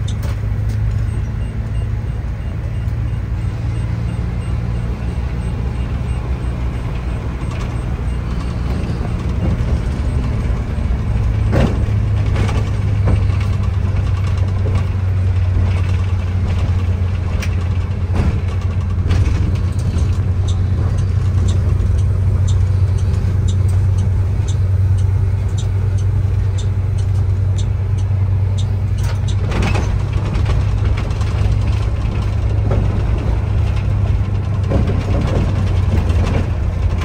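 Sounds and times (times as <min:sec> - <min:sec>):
bus engine and road noise: 0:00.0 - 0:37.0
light regular ticking: 0:00.0 - 0:37.0.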